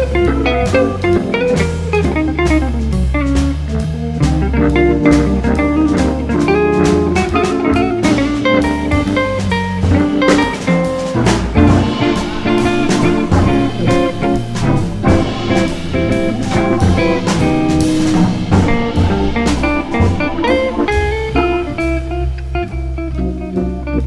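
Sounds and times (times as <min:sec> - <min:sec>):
drum kit: 0:00.0 - 0:24.0
electric guitar: 0:00.0 - 0:24.0
organ: 0:03.8 - 0:24.0.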